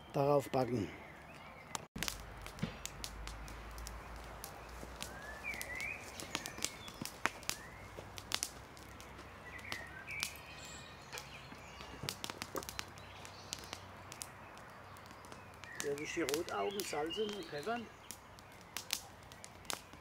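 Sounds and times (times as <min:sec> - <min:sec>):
small birds chirping: 0:00.0 - 0:20.0
campfire crackling and popping: 0:00.1 - 0:20.0.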